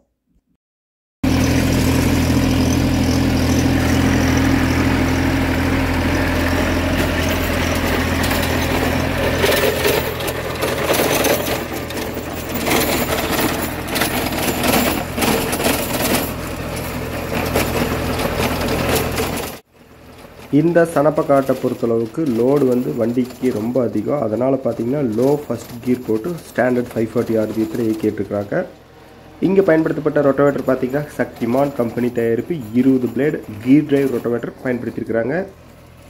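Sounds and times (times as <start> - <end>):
rotary tiller churning and knocking: 1.2 - 36.0
tractor diesel engine under load: 1.2 - 36.0.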